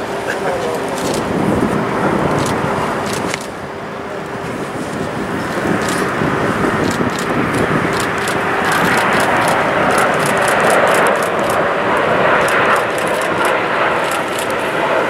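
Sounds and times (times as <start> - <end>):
jet engine rush overhead: 0.0 - 15.0.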